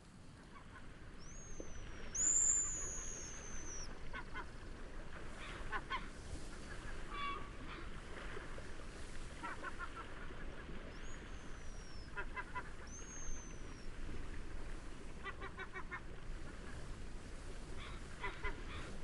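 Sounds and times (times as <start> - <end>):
wind and waves hiss: 0.0 - 19.0.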